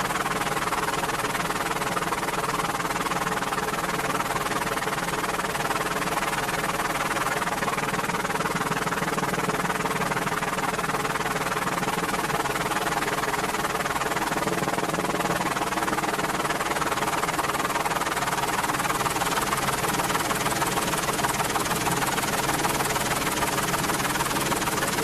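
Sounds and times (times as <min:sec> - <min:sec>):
helicopter rotor and turbine drone: 0:00.0 - 0:25.0.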